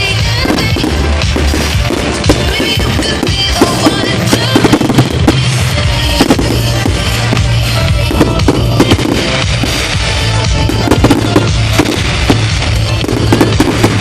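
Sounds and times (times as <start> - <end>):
fireworks bangs and crackles: 0.0 - 14.0
loud pop music: 0.0 - 14.0.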